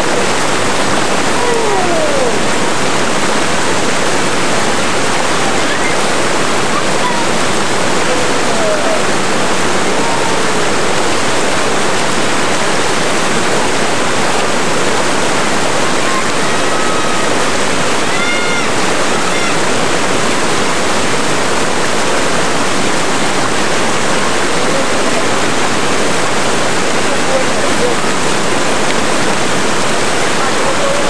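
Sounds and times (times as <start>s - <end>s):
whitewater rapids rushing: 0.0s - 31.0s.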